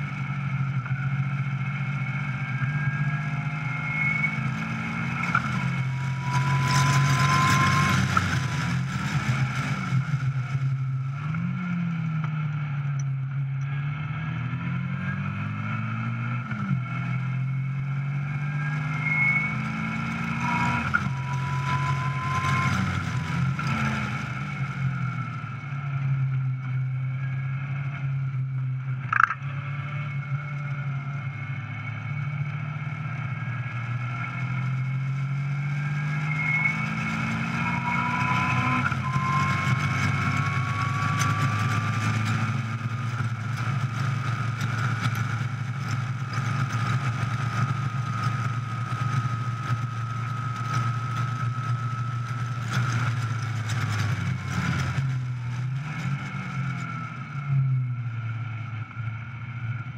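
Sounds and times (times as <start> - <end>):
car engine revving: 0.0 - 57.7.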